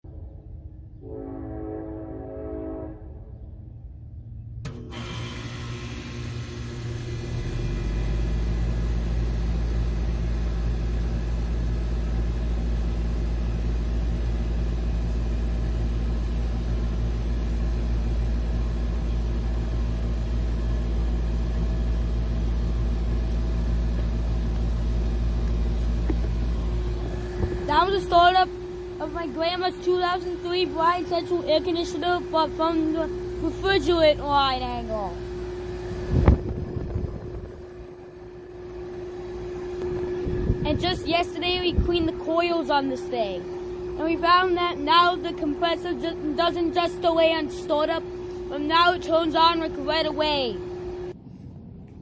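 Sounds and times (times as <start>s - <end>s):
compressor low hum: 0.0s - 52.0s.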